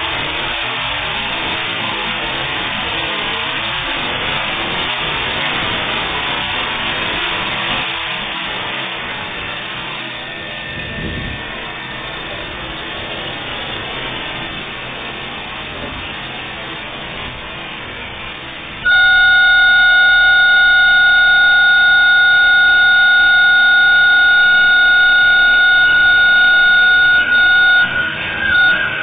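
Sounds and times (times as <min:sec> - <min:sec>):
high-pitched machine whine: 0:00.0 - 0:29.0
lathe machining with coolant: 0:00.0 - 0:29.0.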